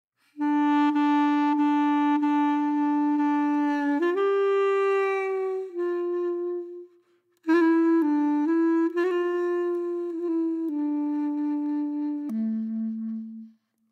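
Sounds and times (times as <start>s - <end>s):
woodwind playing long notes: 0.3s - 13.8s.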